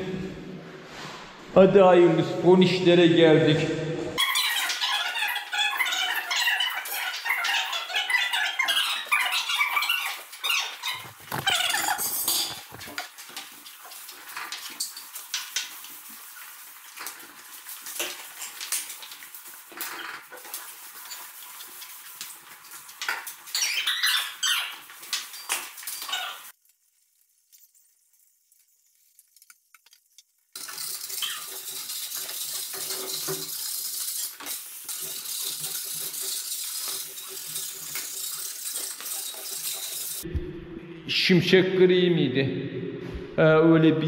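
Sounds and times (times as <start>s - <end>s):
brooms sweeping concrete floor: 0.0s - 1.8s, 5.7s - 40.3s.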